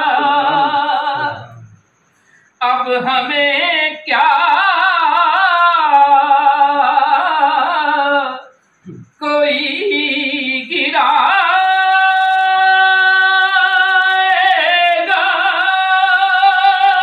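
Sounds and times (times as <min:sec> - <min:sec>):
man singing unaccompanied: 0:00.0 - 0:01.8, 0:02.6 - 0:17.0.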